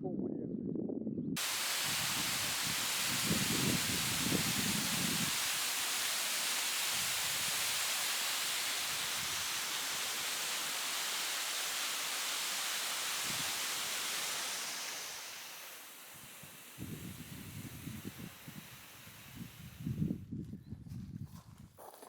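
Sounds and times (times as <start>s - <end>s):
outdoor rushing hiss: 1.4s - 20.2s.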